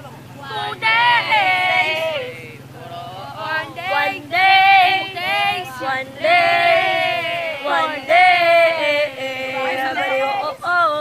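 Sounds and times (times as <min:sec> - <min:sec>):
low steady hum: 0:00.0 - 0:11.0
young people singing together: 0:00.0 - 0:11.0.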